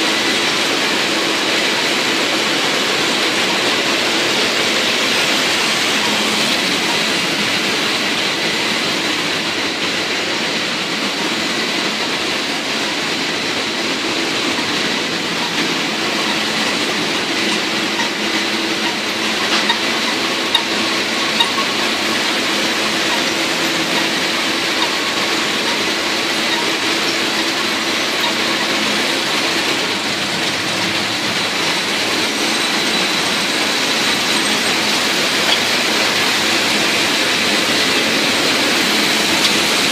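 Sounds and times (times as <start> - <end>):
machinery rumble and clatter: 0.0 - 39.9.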